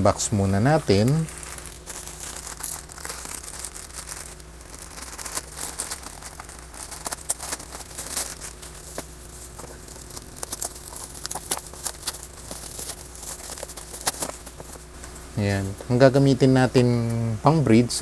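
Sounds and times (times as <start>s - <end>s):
bubble wrap crinkling: 0.0s - 16.0s
plastic bag tearing: 0.3s - 15.0s.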